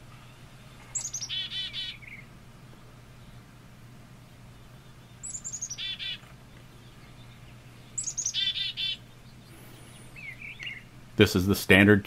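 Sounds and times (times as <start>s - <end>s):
chickadee calling: 0.0s - 3.6s, 4.2s - 11.8s.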